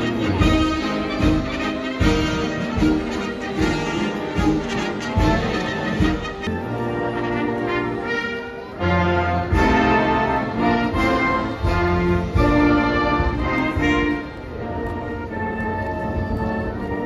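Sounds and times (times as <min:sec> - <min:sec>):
orchestra with brass chords: 0:00.0 - 0:17.0.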